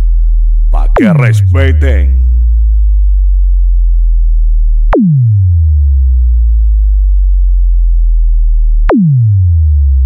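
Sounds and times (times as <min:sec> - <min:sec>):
sub-bass test tone: 0:00.0 - 0:10.0.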